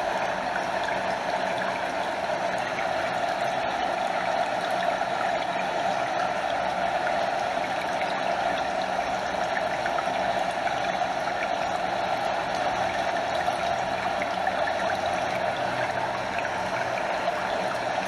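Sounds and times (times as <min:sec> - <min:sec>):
water splashes and trickles: 0:00.0 - 0:18.0.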